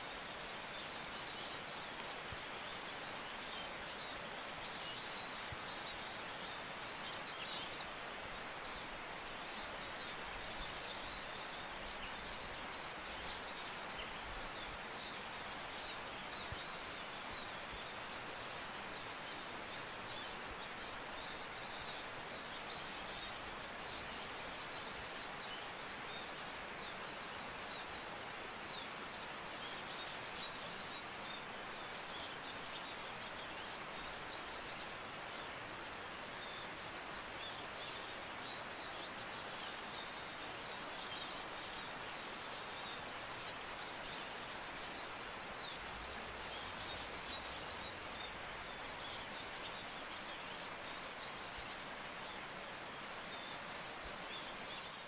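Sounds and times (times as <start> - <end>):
small birds chirping: 0.0 - 55.0
steady outdoor hiss: 0.0 - 55.0.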